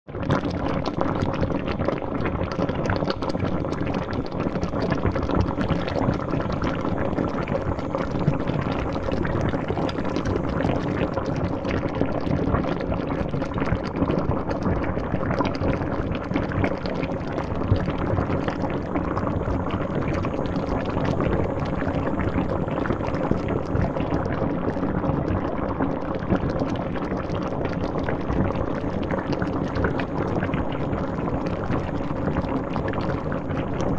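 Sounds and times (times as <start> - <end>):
liquid boiling and bubbling: 0.0 - 33.9.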